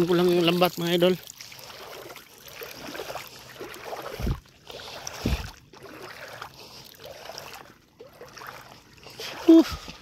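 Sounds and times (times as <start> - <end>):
footsteps wading in water: 0.0 - 10.0.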